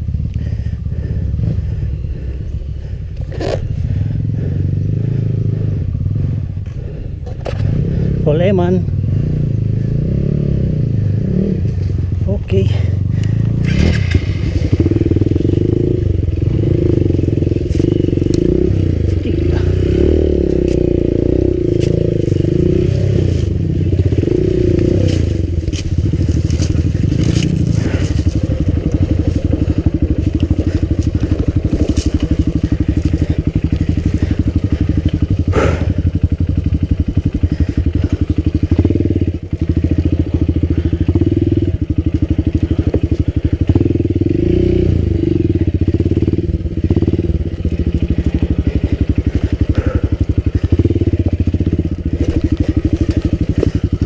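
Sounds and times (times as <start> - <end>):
motorcycle engine at low speed: 0.0 - 54.0.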